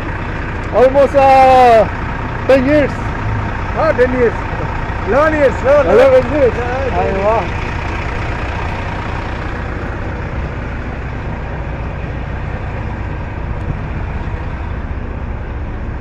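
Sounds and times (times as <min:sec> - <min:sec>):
heavy truck engine rumbling: 0:00.0 - 0:16.0.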